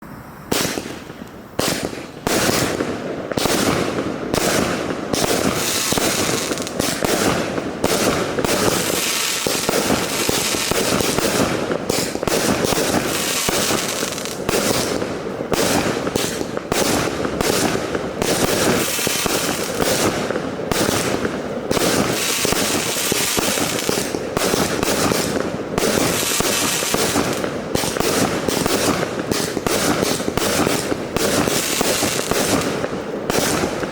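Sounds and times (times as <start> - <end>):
firework launches and aerial bursts: 0.0 - 33.9.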